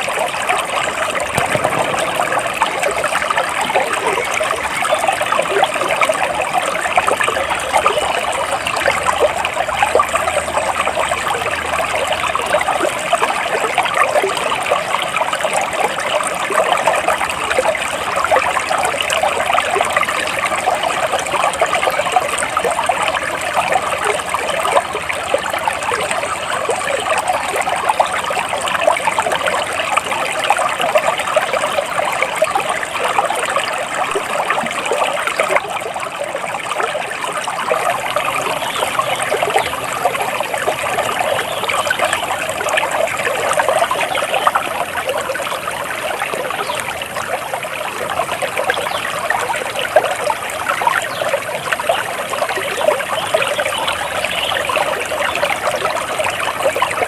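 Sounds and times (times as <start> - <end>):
water trickling and bubbling: 0.0 - 57.0.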